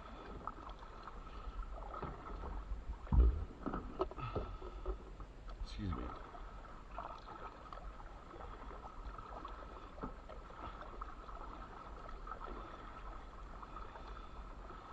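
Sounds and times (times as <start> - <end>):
kayak paddle splashing: 0.0 - 14.9.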